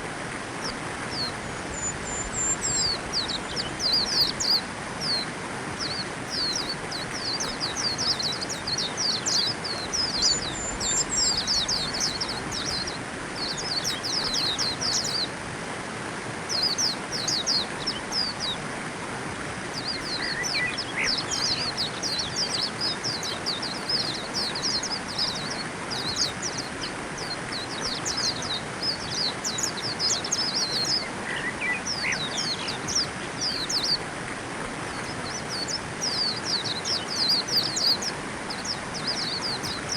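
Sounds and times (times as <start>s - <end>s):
steady hiss: 0.0s - 39.9s
birds twittering high chirps: 0.6s - 15.4s, 16.5s - 18.7s, 19.6s - 39.9s.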